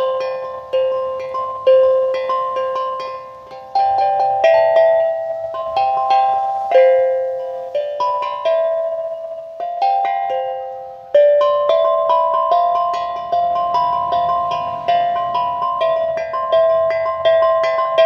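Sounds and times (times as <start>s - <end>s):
melody of high plucked notes: 0.0s - 18.0s.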